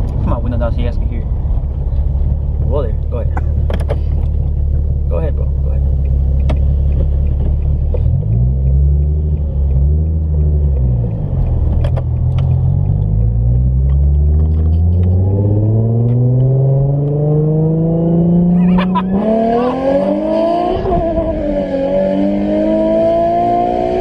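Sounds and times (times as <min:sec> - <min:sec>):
sports car engine accelerating: 0:00.0 - 0:24.0.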